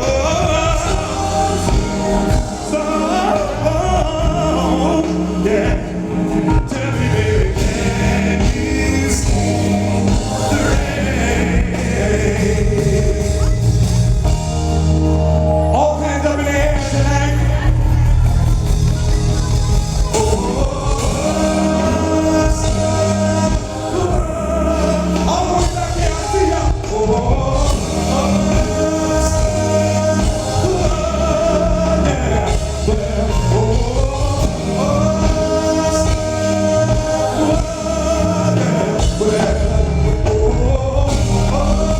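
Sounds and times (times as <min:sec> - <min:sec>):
man singing: 0:00.0 - 0:14.4, 0:15.5 - 0:41.9
live band with bass: 0:00.0 - 0:41.9.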